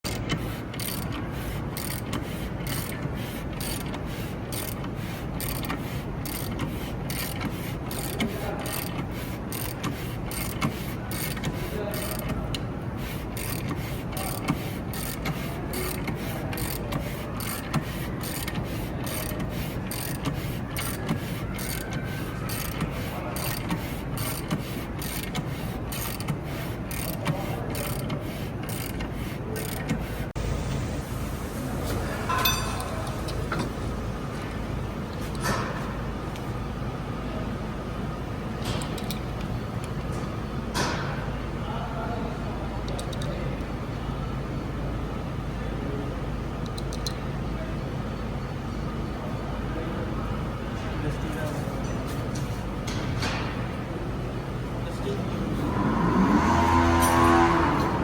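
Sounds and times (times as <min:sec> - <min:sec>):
mechanical background noise: 0:00.0 - 0:58.0.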